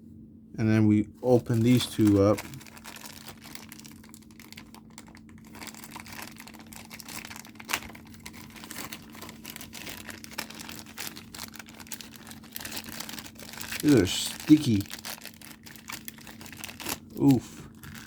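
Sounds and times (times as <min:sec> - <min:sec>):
steady low hum: 0:00.0 - 0:18.0
plastic crinkling and rustling: 0:01.2 - 0:18.0.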